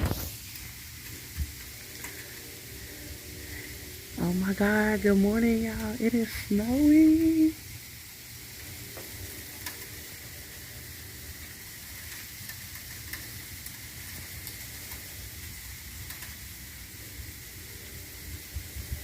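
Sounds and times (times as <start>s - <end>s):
snow falling hiss: 0.0s - 19.0s.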